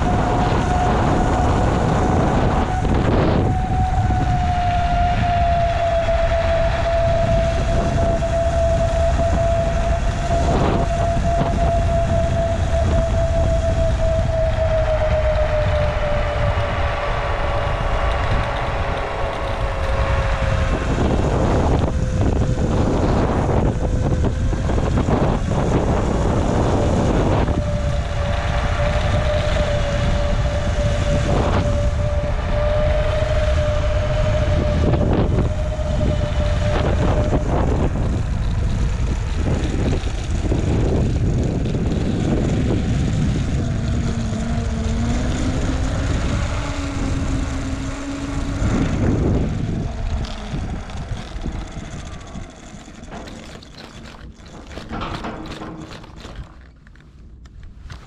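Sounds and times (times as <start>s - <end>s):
high squeal: 0.0s - 57.1s
lower squeal: 0.0s - 58.0s
tyre noise on paved road: 0.0s - 58.0s
wind rushing over microphone: 0.0s - 58.0s.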